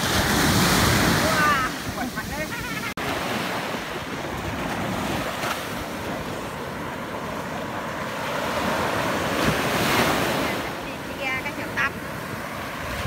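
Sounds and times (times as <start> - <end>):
waves washing up beach: 0.0 - 13.0
wind gusting on microphone: 0.0 - 13.0.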